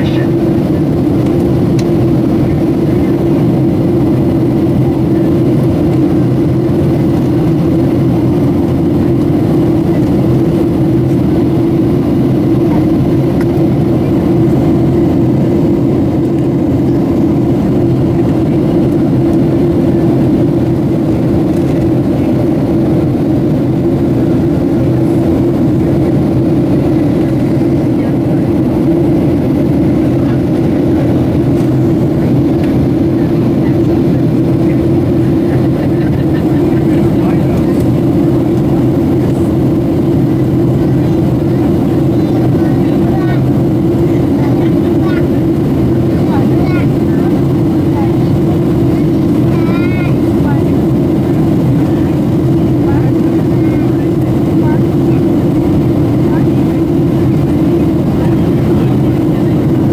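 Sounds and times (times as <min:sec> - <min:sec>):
airflow over fuselage: 0:00.0 - 0:59.9
jet engine drone: 0:00.0 - 0:59.9.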